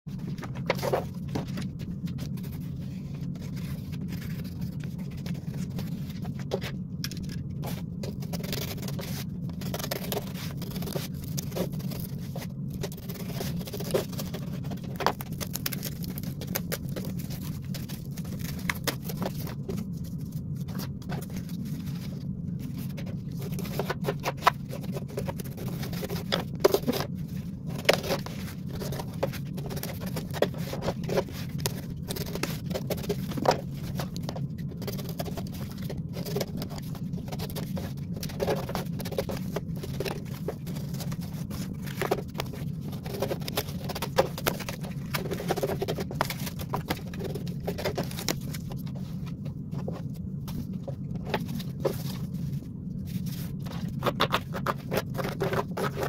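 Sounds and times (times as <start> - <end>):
steady low hum: 0.1 - 56.0.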